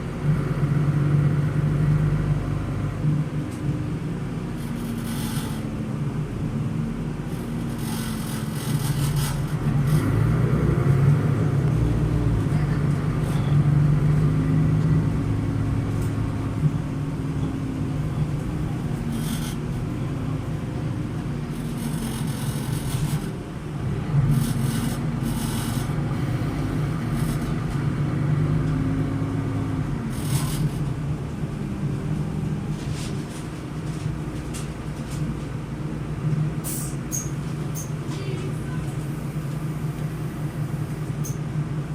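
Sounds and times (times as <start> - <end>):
bus diesel engine: 0.0 - 41.9.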